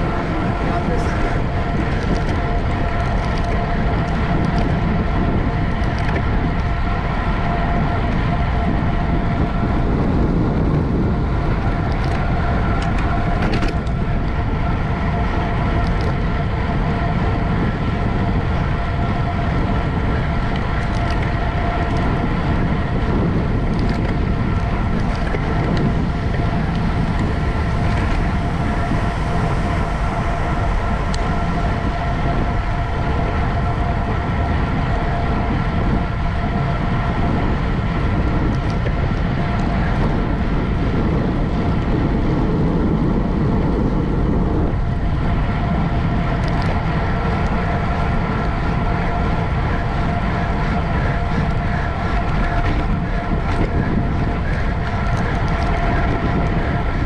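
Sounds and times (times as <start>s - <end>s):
high whine: 0.0s - 57.0s
wind and road noise: 0.0s - 57.0s.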